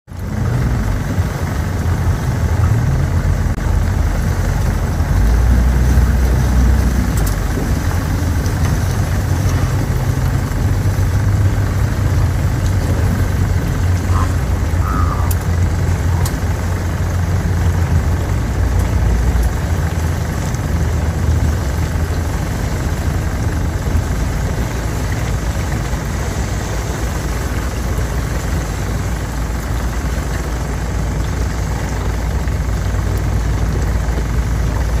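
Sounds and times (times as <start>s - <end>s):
boat motor idling: 0.1s - 35.0s.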